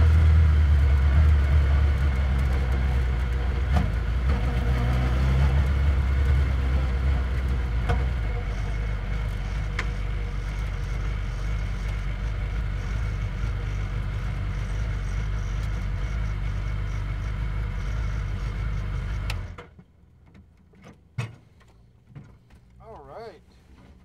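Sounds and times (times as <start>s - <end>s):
race car engine idling: 0.0s - 20.2s.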